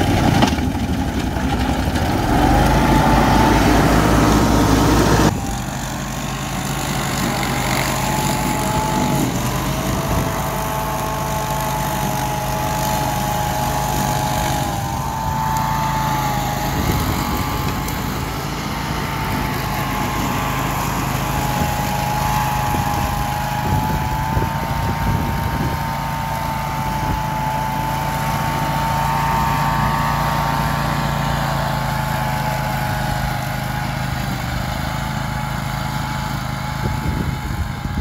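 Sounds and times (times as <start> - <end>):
mower engine droning: 0.0 - 38.0.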